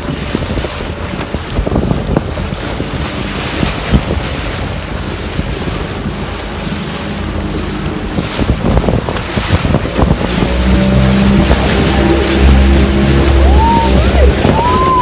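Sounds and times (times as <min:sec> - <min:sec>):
faint boat engine hum: 0:00.0 - 0:15.0
water rushing past hull: 0:00.0 - 0:15.0
wind buffeting microphone: 0:00.0 - 0:15.0.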